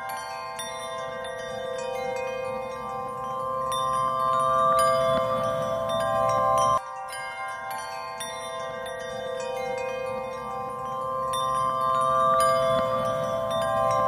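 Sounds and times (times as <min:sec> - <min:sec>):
chime-like background music: 0:00.0 - 0:14.0.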